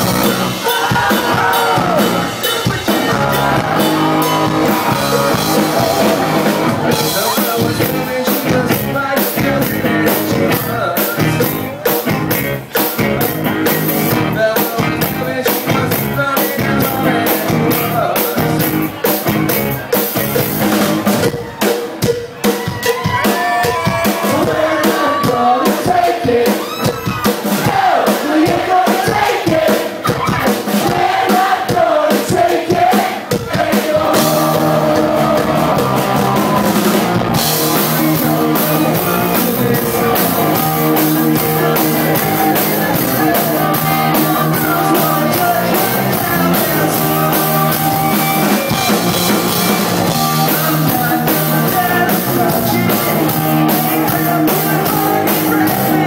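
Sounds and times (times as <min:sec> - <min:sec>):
rock band playing: 0:00.0 - 0:56.0
male singer: 0:00.6 - 0:20.6, 0:23.2 - 0:49.0, 0:49.6 - 0:56.0.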